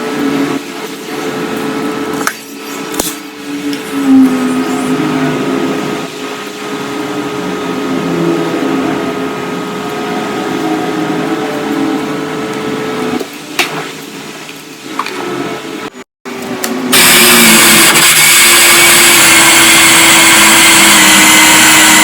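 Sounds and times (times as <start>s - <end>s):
machine hum: 0.0s - 13.5s, 14.2s - 22.0s.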